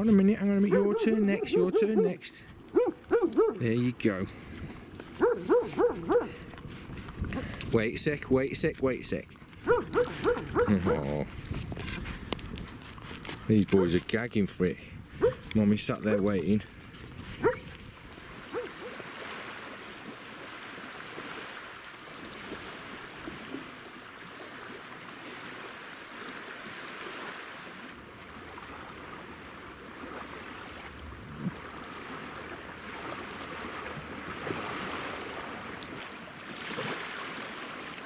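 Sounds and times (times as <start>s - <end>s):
small waves lapping on shore: 0.0s - 38.0s.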